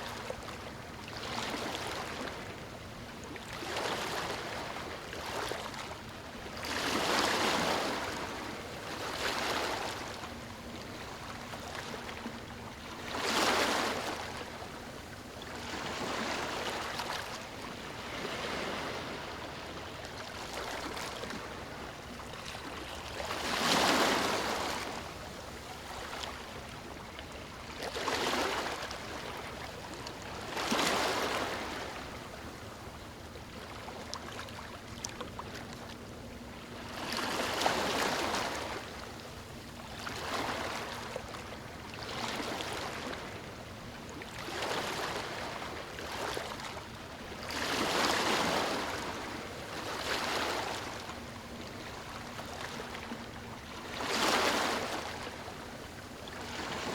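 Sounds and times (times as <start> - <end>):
small waves breaking on a beach: 0.0 - 56.9.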